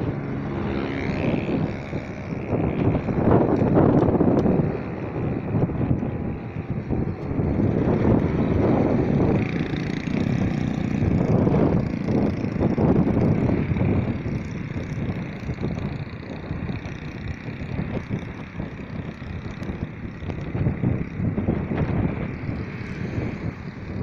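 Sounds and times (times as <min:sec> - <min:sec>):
vehicle traffic noise: 0:00.0 - 0:24.0
wind buffeting microphone: 0:00.0 - 0:24.0.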